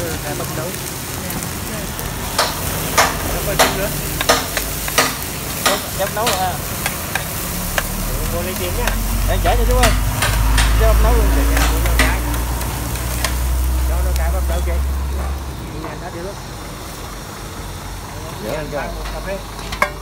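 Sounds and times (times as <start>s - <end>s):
food sizzling: 0.0s - 20.0s.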